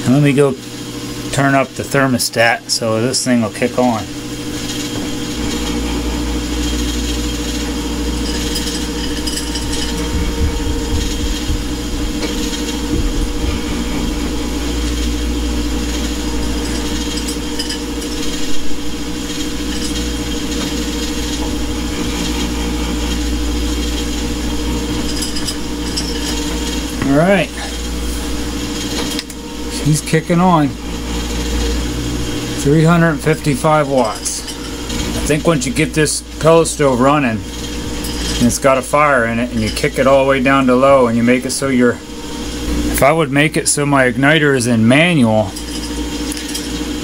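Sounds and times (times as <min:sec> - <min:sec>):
stove blower hum and rattle: 0:00.0 - 0:47.0.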